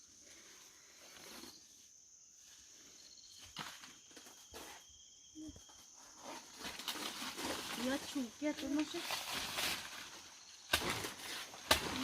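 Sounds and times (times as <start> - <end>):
insect chirping trills: 0.0 - 12.0
insects droning: 0.0 - 12.0.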